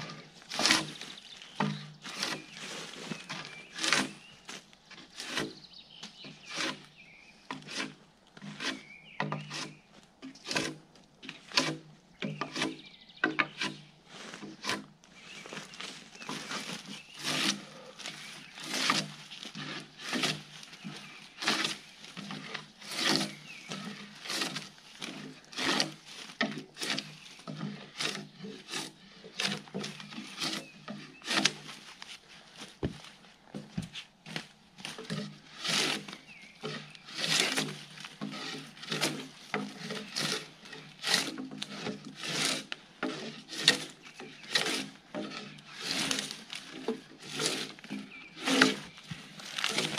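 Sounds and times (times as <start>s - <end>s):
drawknife scraping bark off log: 0.0s - 15.0s, 16.2s - 31.8s, 33.6s - 49.9s.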